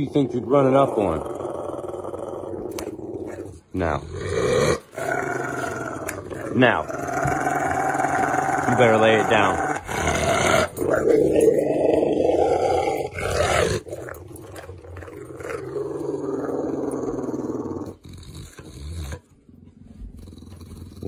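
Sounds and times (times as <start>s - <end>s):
dog growling low: 0.0s - 21.0s.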